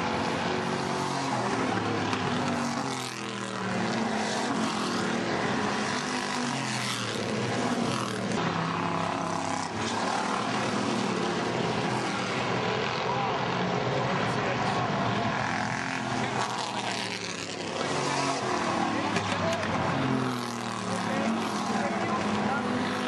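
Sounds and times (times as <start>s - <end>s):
race car engines at full throttle: 0.0s - 23.0s.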